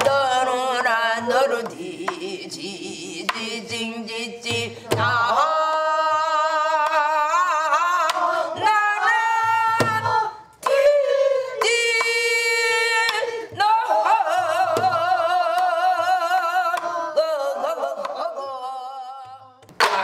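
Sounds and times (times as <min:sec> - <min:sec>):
women singing folk melody: 0:00.0 - 0:20.0
drum beating: 0:01.3 - 0:16.9, 0:19.2 - 0:20.0.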